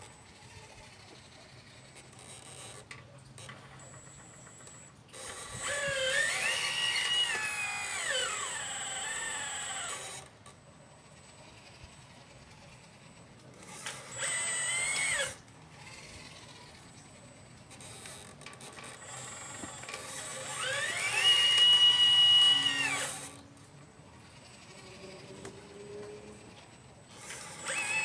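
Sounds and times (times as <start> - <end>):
electric motor whining: 3.5 - 10.3, 11.1 - 23.5, 24.2 - 28.0.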